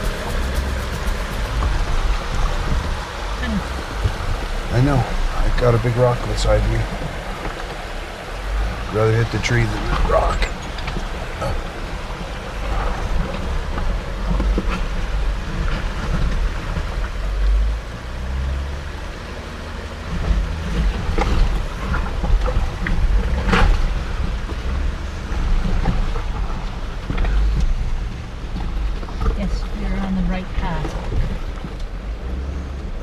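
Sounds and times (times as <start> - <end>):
engine and tyres rumbling: 0.0 - 33.0
rocks and suspension clunking: 0.0 - 33.0.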